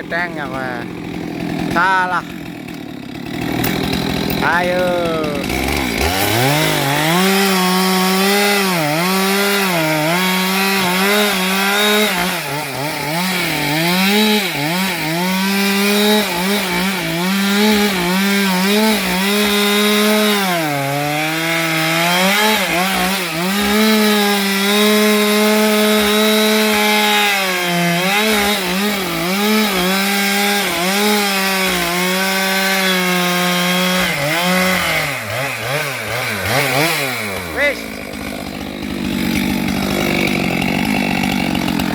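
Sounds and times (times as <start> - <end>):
chainsaw cutting through wood: 0.0 - 41.9.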